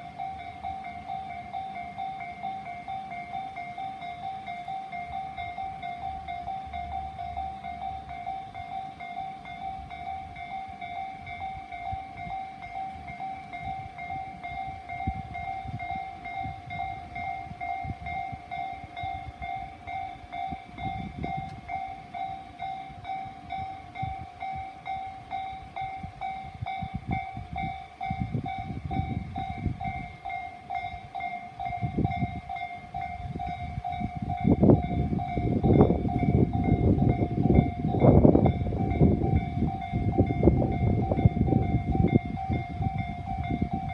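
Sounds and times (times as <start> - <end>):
level-crossing warning bell: 0.0 - 43.9
train rumble: 0.0 - 43.9.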